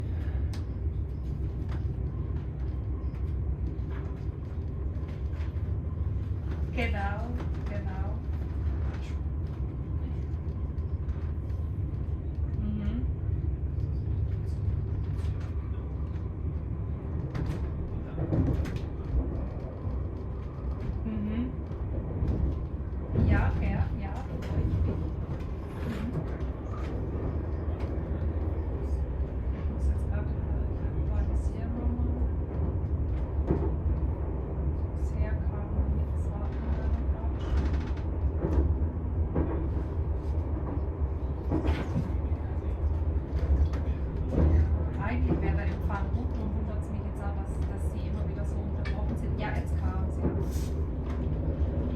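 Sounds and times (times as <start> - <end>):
train rattles: 0.0 - 51.9
train rumbling: 0.0 - 51.9.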